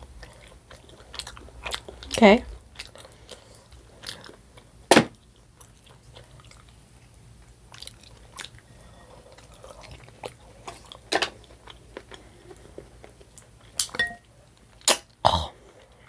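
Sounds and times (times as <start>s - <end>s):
chewing and wet mouth sounds: 0.0s - 16.0s.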